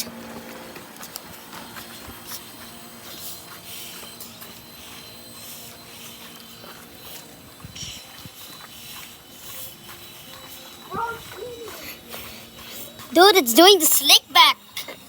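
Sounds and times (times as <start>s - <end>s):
toy helicopter rotor whirring: 0.0s - 15.0s.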